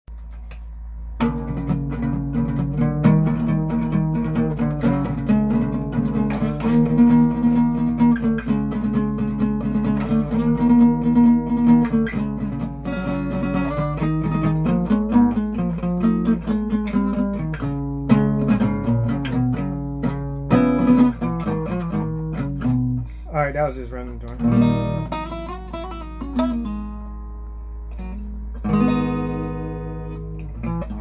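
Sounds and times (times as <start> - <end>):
acoustic guitar playing: 0.1 - 31.0.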